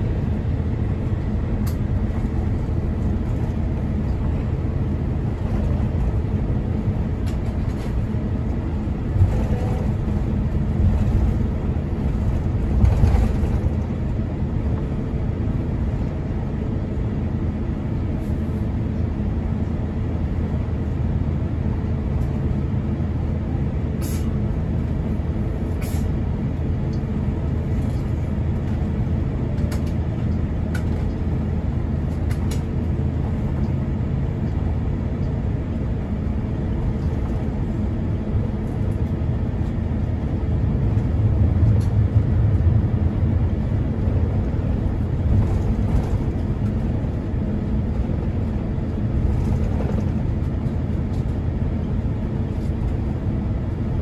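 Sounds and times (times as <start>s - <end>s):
aircraft engines rumbling: 0.0s - 54.0s.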